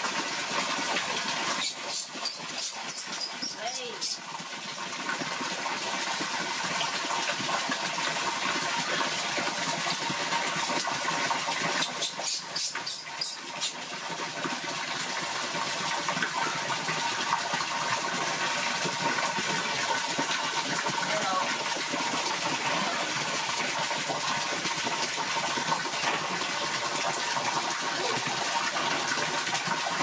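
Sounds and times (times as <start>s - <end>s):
water pouring into metal basin: 0.0s - 30.0s.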